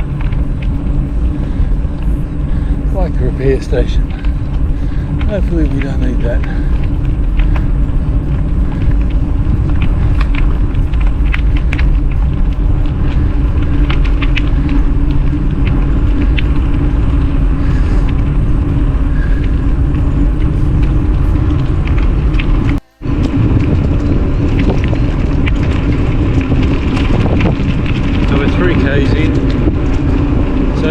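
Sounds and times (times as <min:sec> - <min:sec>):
bike tyre noise: 0:00.0 - 0:30.9
steady hum: 0:00.0 - 0:30.9
wind rumble on microphone: 0:00.0 - 0:30.9.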